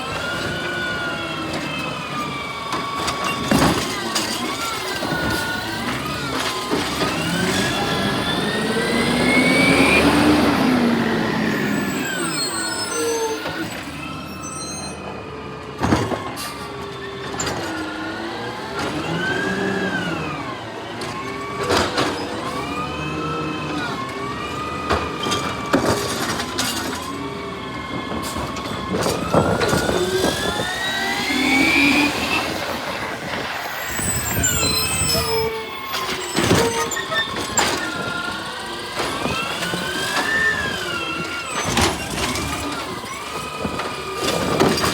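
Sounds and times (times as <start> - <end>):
garbage truck engine revving: 0.0 - 44.9.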